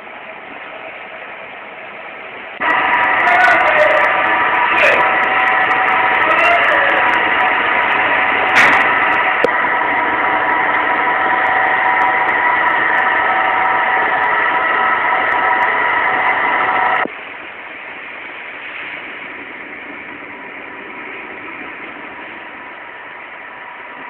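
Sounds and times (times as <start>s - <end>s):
engine drone with held tones: 0.0s - 24.0s.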